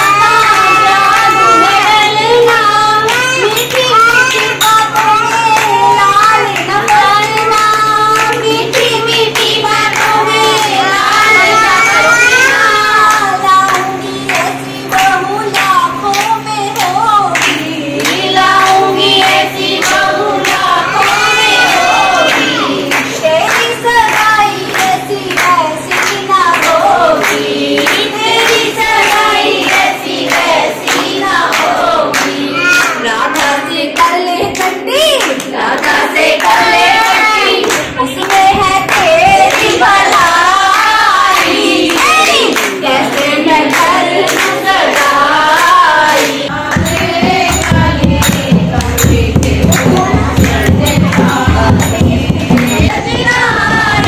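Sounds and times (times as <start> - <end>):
women singing devotional song: 0.0 - 54.0
hand-clapping: 0.1 - 11.2, 13.0 - 21.1, 21.7 - 52.9.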